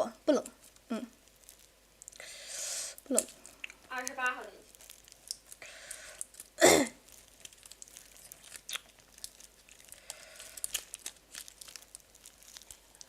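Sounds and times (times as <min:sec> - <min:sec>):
plastic wrapper crinkling: 0:00.5 - 0:02.3, 0:03.0 - 0:13.0.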